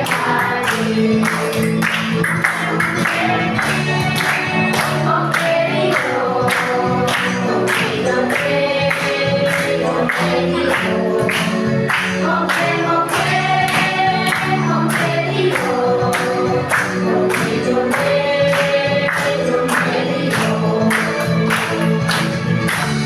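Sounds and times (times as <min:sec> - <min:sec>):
backing music with steady beat: 0:00.0 - 0:23.0
group of voices singing: 0:00.0 - 0:23.0.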